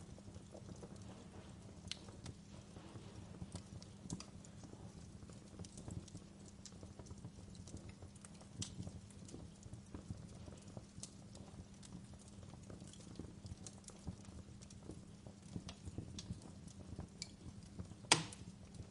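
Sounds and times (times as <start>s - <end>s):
fireplace crackling: 0.0s - 18.9s.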